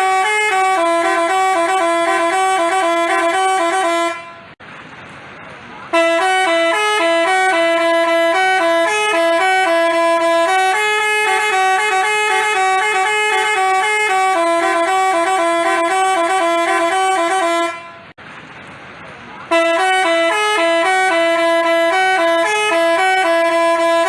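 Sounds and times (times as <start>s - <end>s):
musical bus horn playing a tune: 0.0s - 4.6s, 5.9s - 18.2s, 19.5s - 24.0s.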